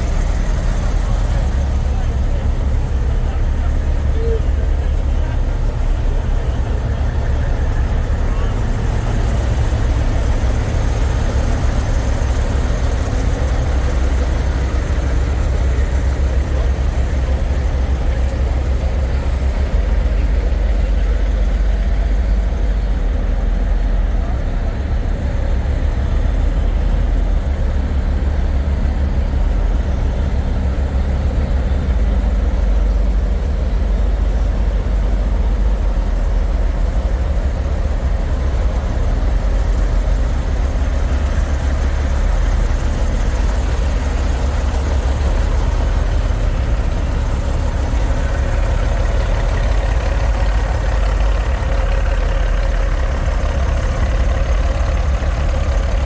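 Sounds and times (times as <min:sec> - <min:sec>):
diesel engines idling: 0:00.0 - 0:56.0.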